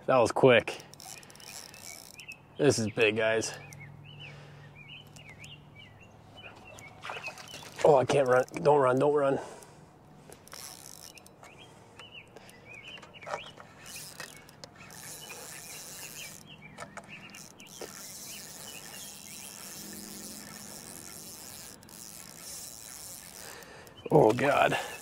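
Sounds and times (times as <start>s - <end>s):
small birds chirping: 0.0s - 25.0s
steady outdoor hiss: 0.0s - 25.0s.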